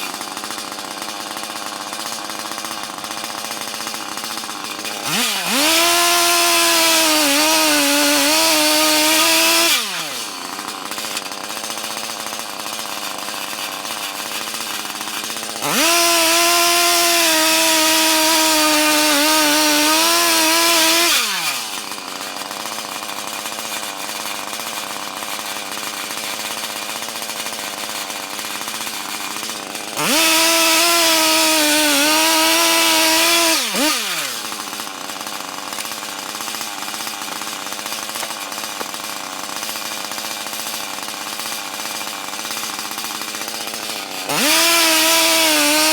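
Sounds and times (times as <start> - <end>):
chainsaw revving: 0.0 - 45.9.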